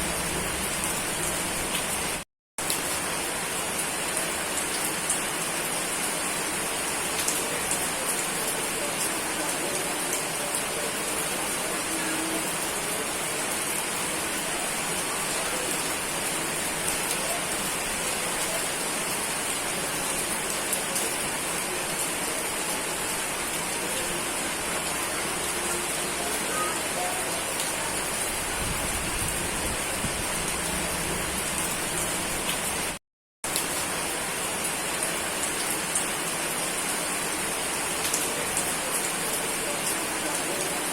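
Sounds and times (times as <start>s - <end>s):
raindrops ticking on surfaces: 0.0s - 40.9s
steady rain hiss: 0.0s - 40.9s.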